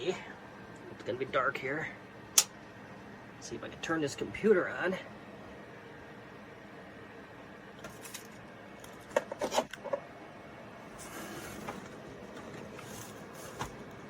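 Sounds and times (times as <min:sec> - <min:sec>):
computer fans whirring: 0:00.0 - 0:14.0.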